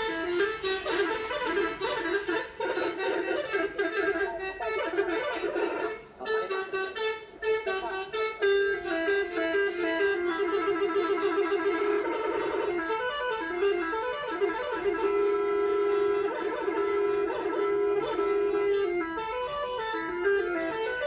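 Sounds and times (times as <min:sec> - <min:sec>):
bus air horn melody: 0:00.0 - 0:21.0.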